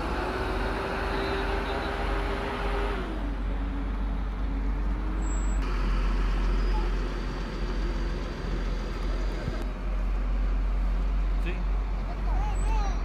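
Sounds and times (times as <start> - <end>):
diesel engine of passing vehicle: 0.0 - 13.0.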